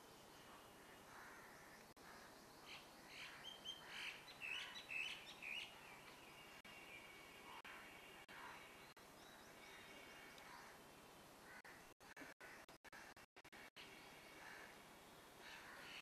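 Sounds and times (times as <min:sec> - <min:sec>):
faint bird chirping: 0:00.0 - 0:16.0
faint steady hiss: 0:00.0 - 0:16.0.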